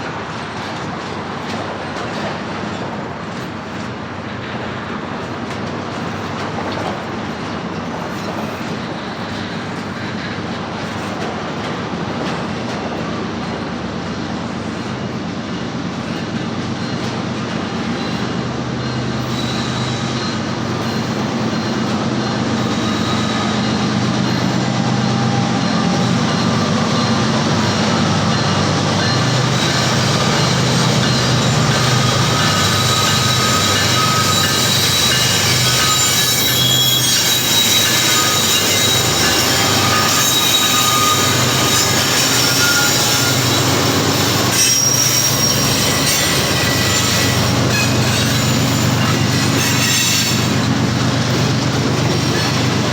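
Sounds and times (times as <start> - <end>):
freight train rumble: 0.0 - 52.9
train wheels squealing: 0.0 - 52.9.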